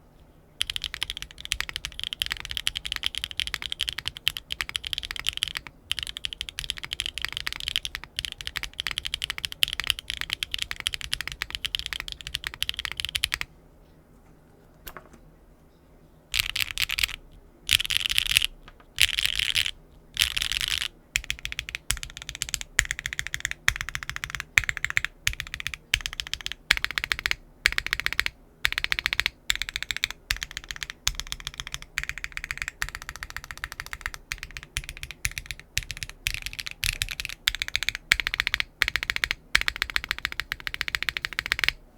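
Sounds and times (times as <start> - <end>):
mechanical keyboard typing: 0.6 - 13.5, 16.3 - 41.8.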